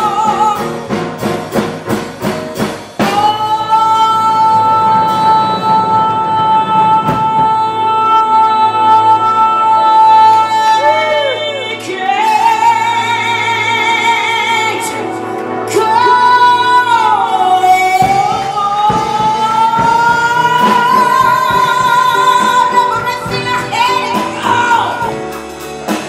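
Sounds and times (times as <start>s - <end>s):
woman singing with vibrato: 0.0s - 1.2s, 3.0s - 25.6s.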